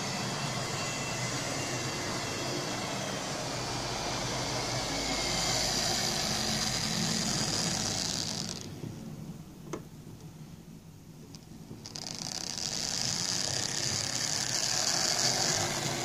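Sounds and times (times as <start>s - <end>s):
model train motor whirring: 0.0s - 8.8s, 11.3s - 16.0s.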